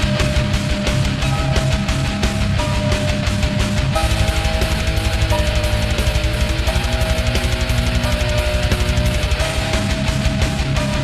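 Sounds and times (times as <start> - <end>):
heavy metal music: 0.0 - 11.0.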